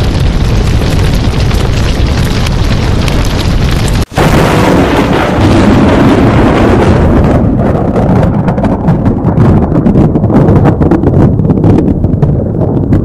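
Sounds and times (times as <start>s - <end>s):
dense rumbling sound effect: 0.0s - 13.0s.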